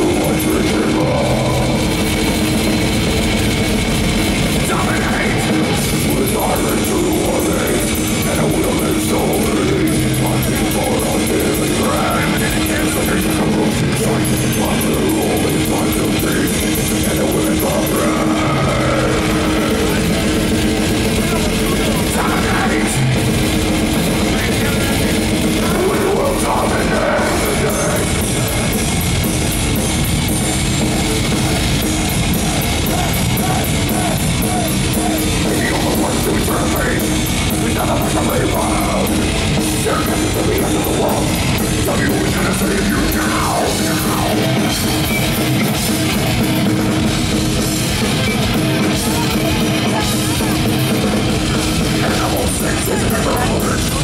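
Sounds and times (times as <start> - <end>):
death metal band playing: 0.0 - 54.0.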